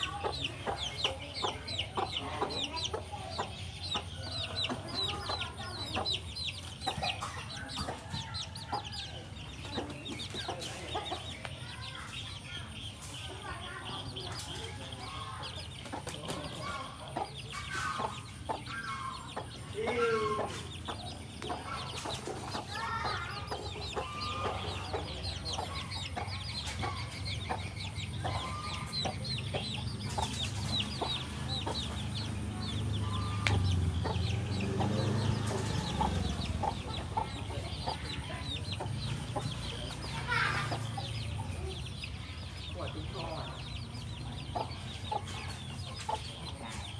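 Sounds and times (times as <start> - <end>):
chicks peeping: 0.0 - 46.9
hen clucking: 0.0 - 46.9.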